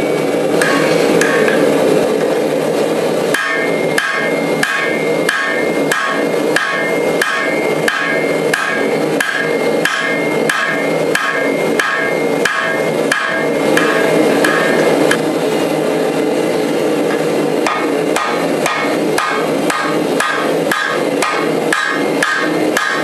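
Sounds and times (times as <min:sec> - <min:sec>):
hammer striking metal on anvil: 0:00.6 - 0:01.6, 0:03.3 - 0:15.2, 0:17.1 - 0:23.0.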